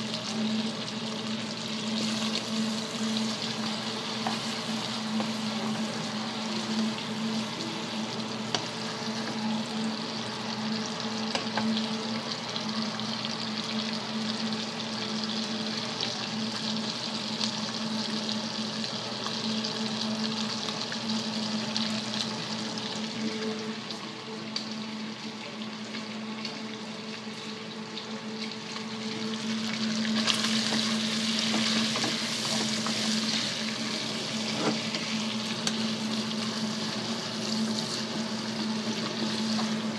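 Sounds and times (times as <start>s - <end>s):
bacon sizzling in pan: 0.0s - 39.9s.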